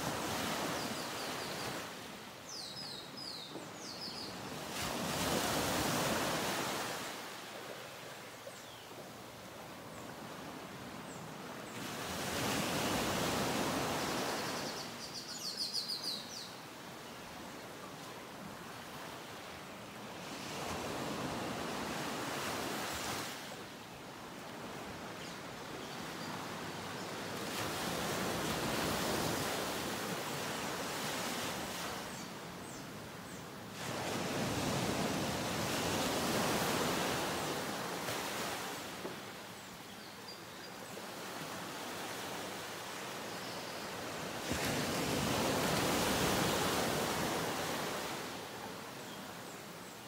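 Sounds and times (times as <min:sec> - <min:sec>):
ocean waves washing on beach: 0:00.0 - 0:15.2, 0:15.8 - 0:50.0.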